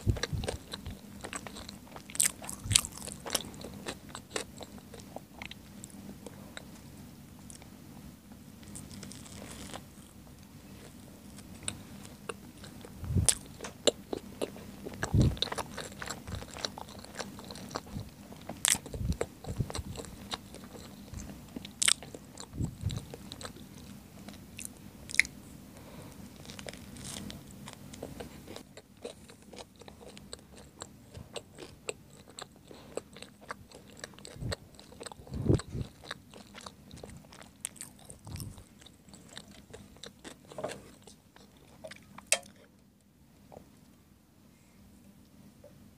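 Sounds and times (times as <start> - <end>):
close chewing with wet mouth clicks: 0.0 - 6.7, 10.8 - 25.3, 26.3 - 42.5.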